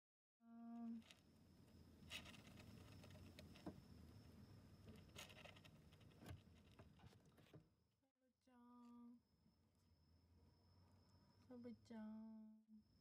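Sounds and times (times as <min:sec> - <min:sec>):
low room noise: 0:00.4 - 0:13.0.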